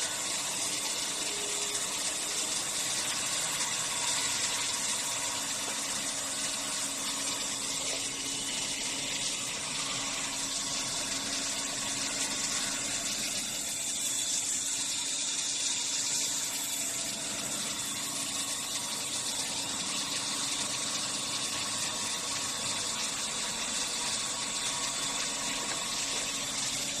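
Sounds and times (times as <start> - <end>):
bandsaw running: 0.0 - 27.0.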